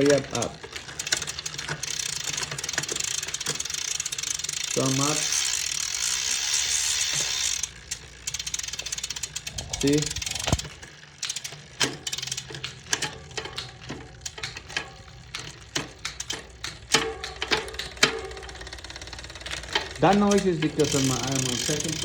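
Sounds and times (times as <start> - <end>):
bike chain clicking over sprockets: 0.0 - 22.0.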